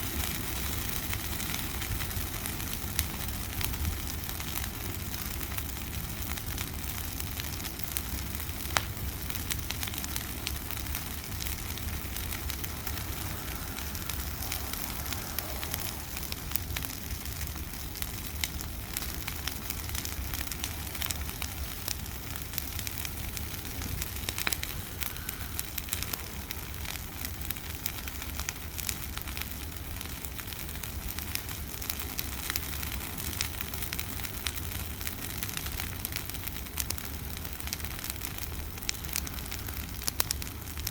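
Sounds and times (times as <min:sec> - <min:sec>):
bonfire crackling and hissing: 0:00.0 - 0:40.9
sharp pops of fire: 0:00.0 - 0:40.9.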